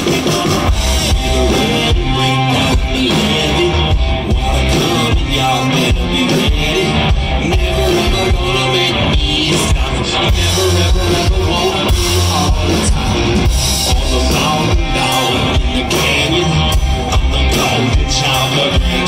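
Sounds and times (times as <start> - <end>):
bass guitar: 0.0 - 19.0
drum kit: 0.0 - 19.0
electric guitar: 0.0 - 19.0
person singing into microphone: 0.0 - 19.0.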